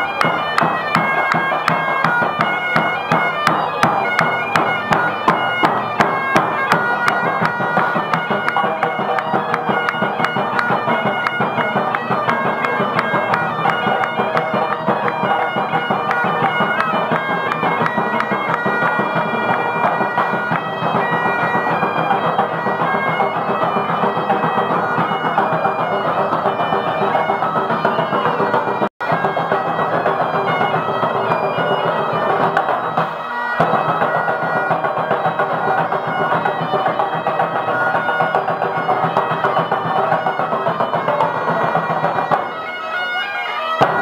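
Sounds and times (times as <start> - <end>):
drum beat: 0.0 - 42.6, 43.8 - 44.0
bagpipes playing lively tune: 0.0 - 44.0.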